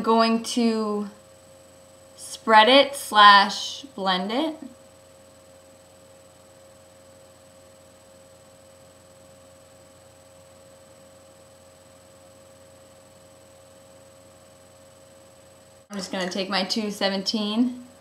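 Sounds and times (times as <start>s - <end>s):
electrical hum: 0.0s - 18.0s
thin high whine: 0.0s - 18.0s.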